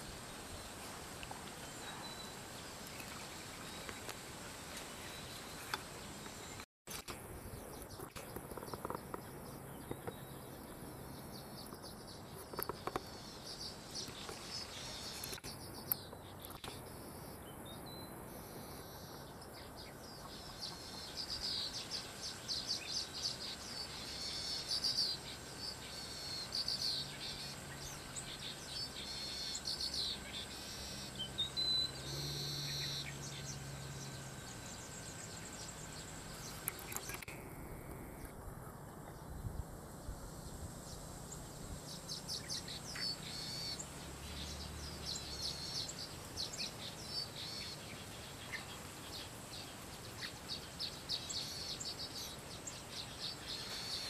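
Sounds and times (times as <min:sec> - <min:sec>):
birds chirping: 0:00.0 - 0:54.0
insects calling: 0:00.0 - 0:54.0.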